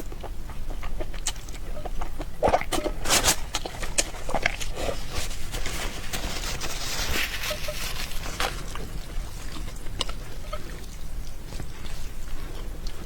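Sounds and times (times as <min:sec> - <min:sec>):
wet slurping and chewing noodles: 0:00.0 - 0:13.0.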